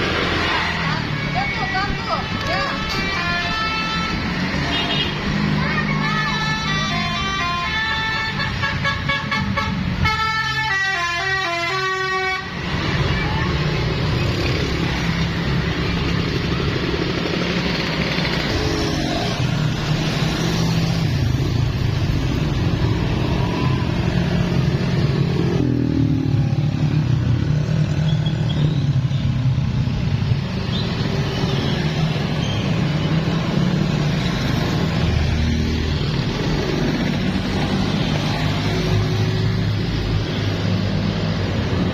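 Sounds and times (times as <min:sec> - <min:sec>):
passing vehicle engines rumbling: 0:00.0 - 0:41.9.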